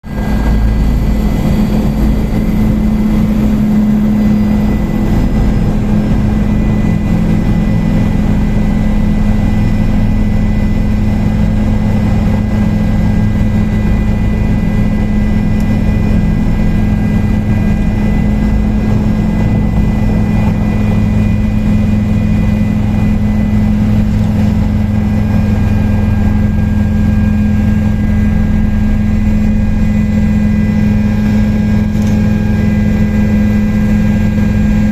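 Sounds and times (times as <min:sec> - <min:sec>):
helicopter rotors and engine drone: 0:00.0 - 0:34.9.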